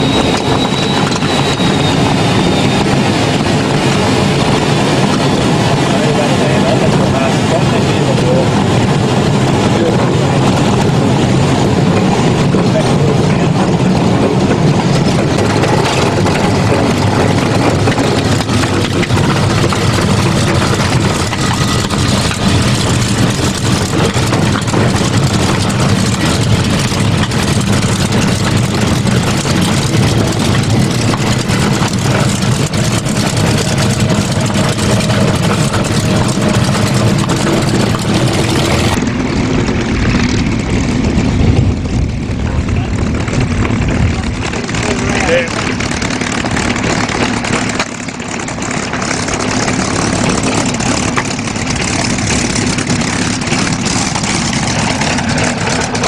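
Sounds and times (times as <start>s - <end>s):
aircraft engine and propeller: 0.0s - 56.0s
plane taxiing: 0.0s - 56.0s.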